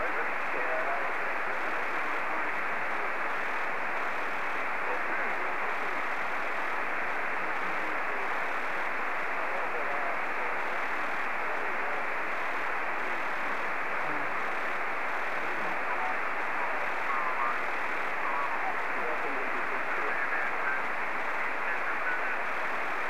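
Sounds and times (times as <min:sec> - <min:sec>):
faint wavering radio signals: 0:00.0 - 0:23.0
radio receiver hiss: 0:00.0 - 0:23.0.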